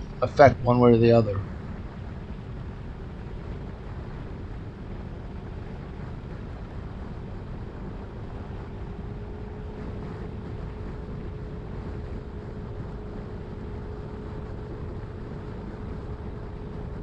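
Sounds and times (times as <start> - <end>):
scooter engine hum: 0.0 - 17.0
wind buffeting microphone: 0.0 - 17.0.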